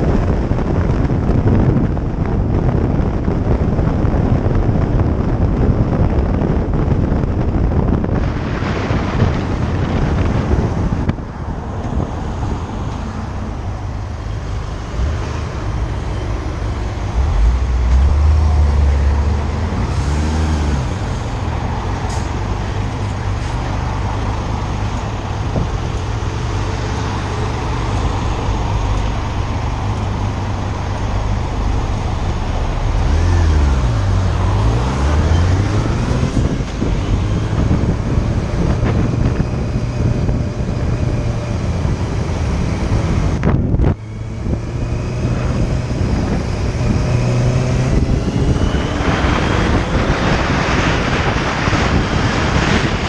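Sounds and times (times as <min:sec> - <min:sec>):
wind rush on microphone: 0:00.0 - 0:53.0.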